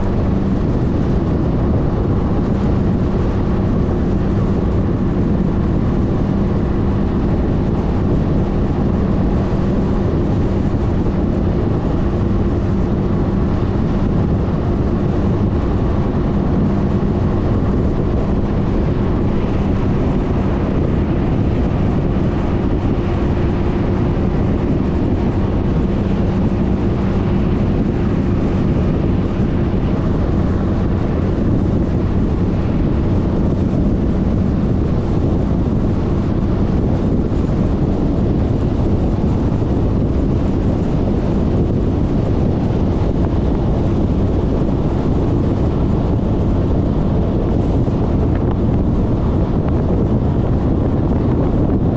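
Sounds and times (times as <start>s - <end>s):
wind and road noise: 0.0s - 51.9s.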